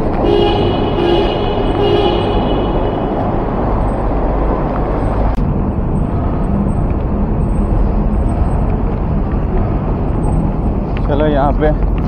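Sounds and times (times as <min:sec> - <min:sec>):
traffic rumble in a tunnel: 0:00.0 - 0:12.0.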